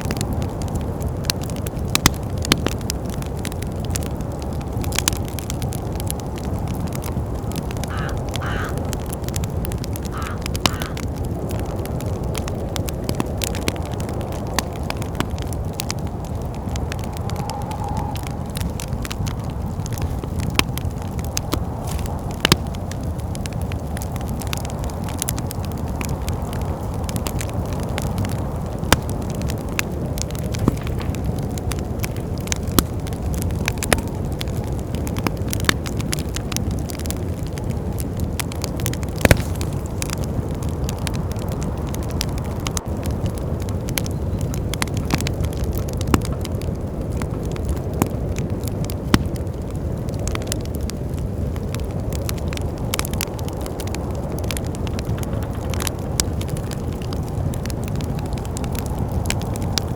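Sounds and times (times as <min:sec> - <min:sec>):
low rumble of wind: 0:00.0 - 0:59.9
wood fire crackling and popping: 0:00.0 - 0:59.9.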